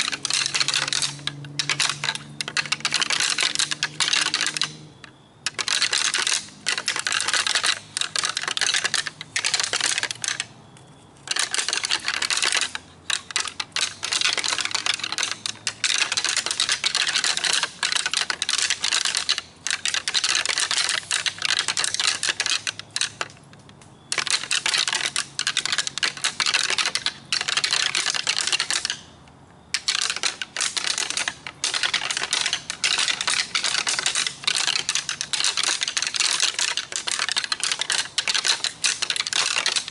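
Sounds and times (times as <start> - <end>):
antlers clattering together: 0.0 - 10.5, 11.2 - 39.9.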